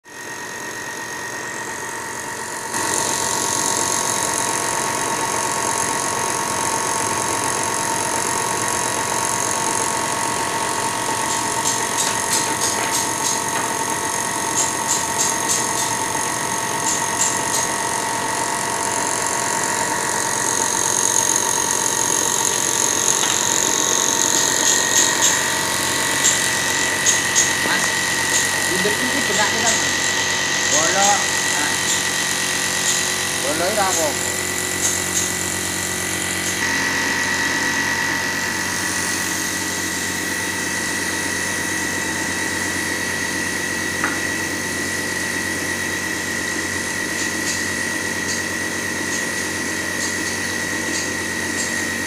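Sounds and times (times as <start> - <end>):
air supply whine: 0.0 - 52.0.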